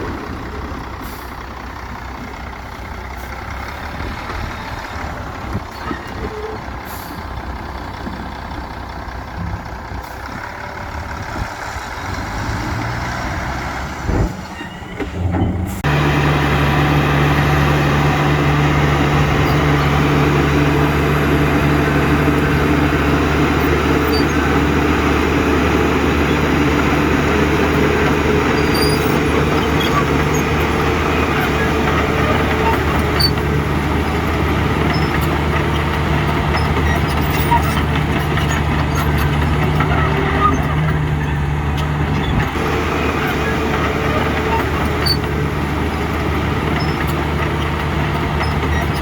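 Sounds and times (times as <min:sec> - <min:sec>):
heavy diesel machinery running: 0:00.0 - 0:49.0.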